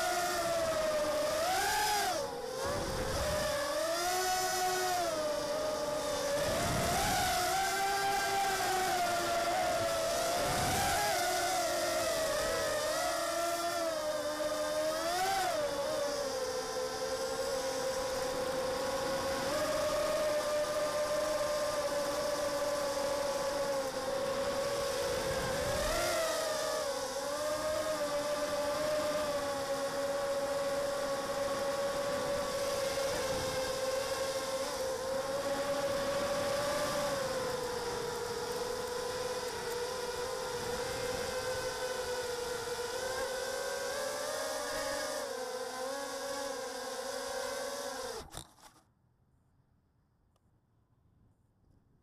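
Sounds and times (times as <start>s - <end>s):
drone motors whining: 0.0s - 48.8s.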